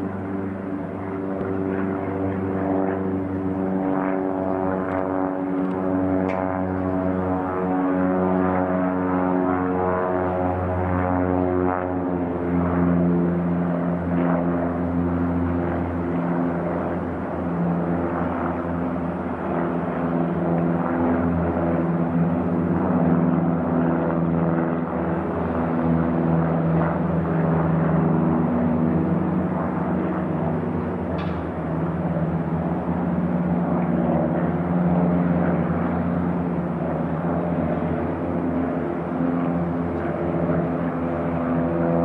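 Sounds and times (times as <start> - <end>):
light aircraft engine drone: 0.0 - 42.0.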